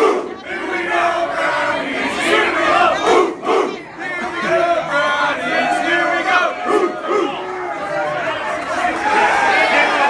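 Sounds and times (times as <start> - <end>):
crowd shouting and cheering: 0.0 - 10.0.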